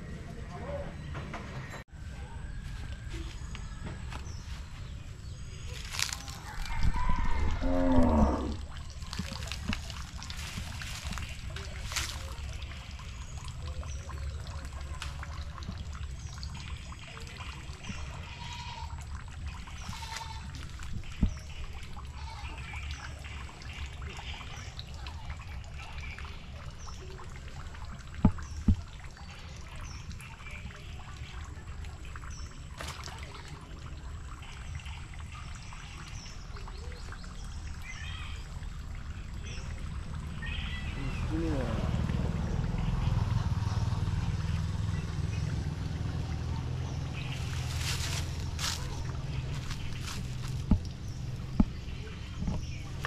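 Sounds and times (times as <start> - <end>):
faint trickling water: 2.0 - 53.0.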